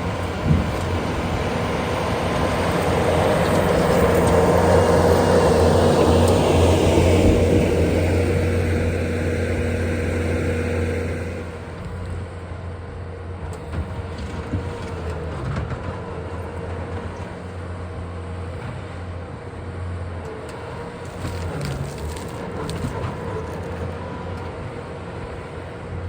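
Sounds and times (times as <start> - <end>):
skid steer engine droning: 0.0 - 26.0.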